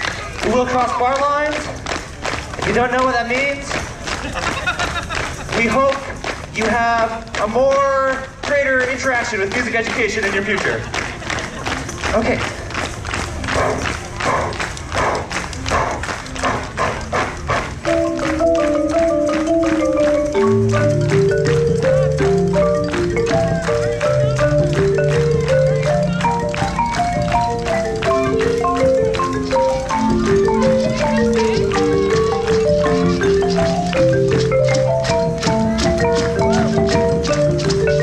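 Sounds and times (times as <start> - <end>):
marimba band playing: 0.0 - 14.0, 15.3 - 38.0
percussion beat: 0.0 - 38.0.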